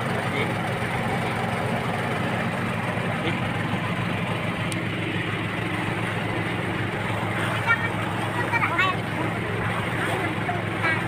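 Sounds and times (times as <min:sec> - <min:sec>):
boat engine droning: 0:00.0 - 0:11.0
water splashing along hull: 0:00.0 - 0:11.0.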